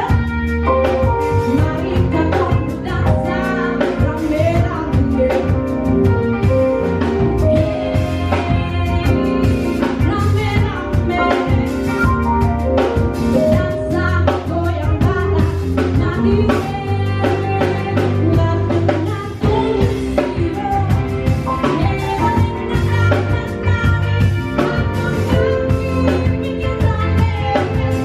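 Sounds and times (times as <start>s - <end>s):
woman singing: 0.0s - 12.1s, 13.2s - 28.0s
drum kit beat: 0.0s - 28.0s
live band playing: 0.0s - 28.0s.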